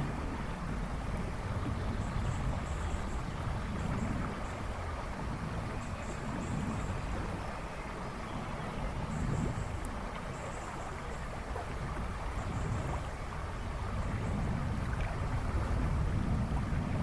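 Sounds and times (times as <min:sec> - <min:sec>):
river rushing and splashing: 0:00.0 - 0:17.0.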